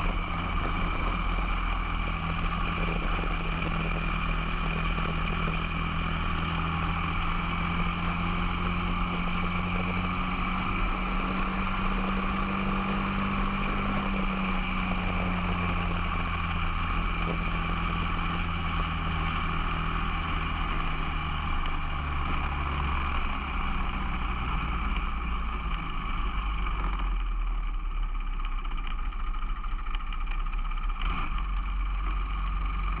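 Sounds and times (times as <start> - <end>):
kart engine running: 0.0 - 33.0.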